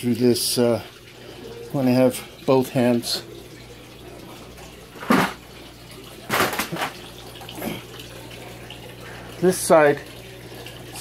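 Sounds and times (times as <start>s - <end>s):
low steady hum: 0.0s - 11.0s
water trickling: 0.0s - 11.0s.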